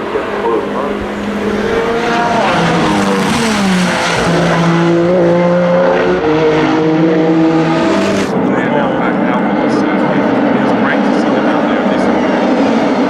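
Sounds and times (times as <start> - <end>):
race car engine at speed: 0.0 - 13.0.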